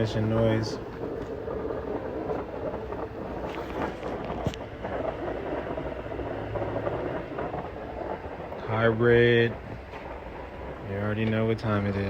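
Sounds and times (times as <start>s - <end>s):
transmission grinding: 0.0s - 12.0s.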